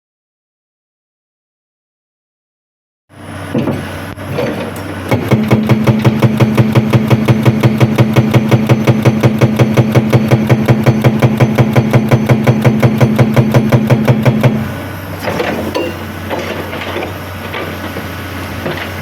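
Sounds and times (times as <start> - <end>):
excavator diesel engine running: 3.1 - 19.0.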